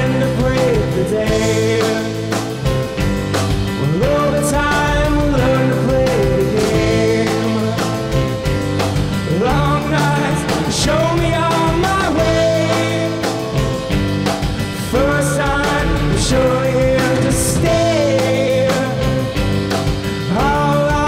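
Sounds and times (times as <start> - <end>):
man singing: 0.0 - 2.9, 3.8 - 13.9, 14.6 - 21.0
bass guitar: 0.0 - 21.0
drum beat: 0.0 - 21.0
electric guitar: 0.0 - 21.0
keyboard: 0.0 - 21.0.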